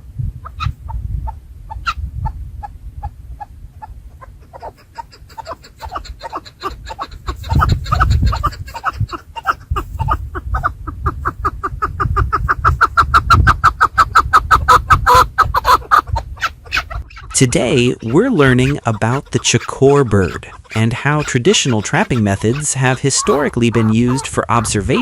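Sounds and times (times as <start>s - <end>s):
partridge rapid clucking call: 0.4s - 25.0s.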